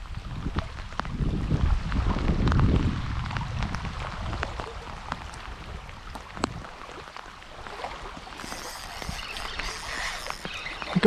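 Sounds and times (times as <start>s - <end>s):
rain falling on water: 0.0s - 11.0s
wind rumbling on microphone: 0.0s - 11.0s.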